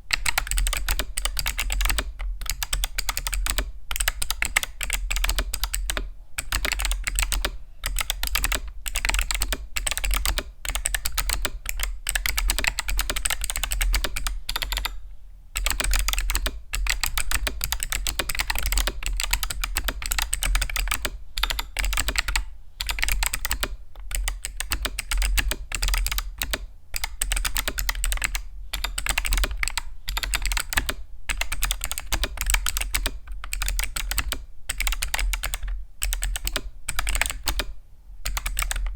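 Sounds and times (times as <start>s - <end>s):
fast typing on clicky keyboard: 0.1s - 15.0s, 15.6s - 38.9s.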